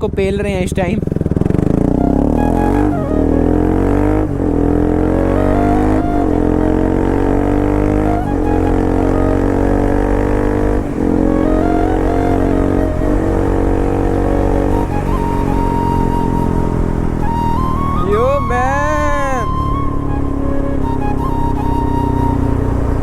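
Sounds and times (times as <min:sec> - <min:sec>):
motorcycle accelerating through gears: 0:00.0 - 0:23.0.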